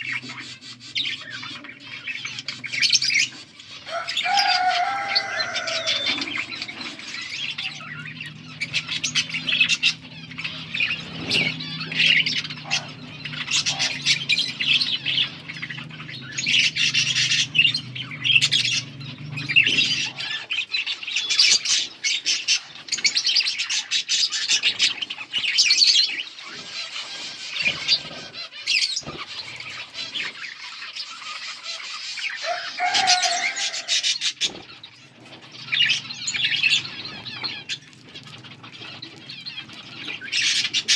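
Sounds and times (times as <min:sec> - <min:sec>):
budgerigars chirping and warbling: 0:00.0 - 0:40.9.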